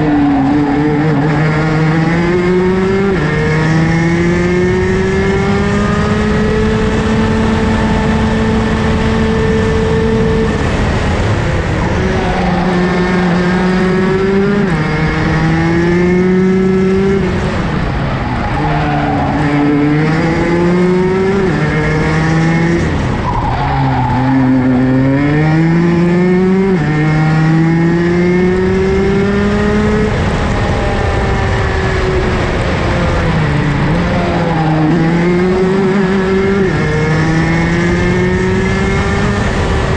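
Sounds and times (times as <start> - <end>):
kart engine at race speed: 0.0 - 39.9.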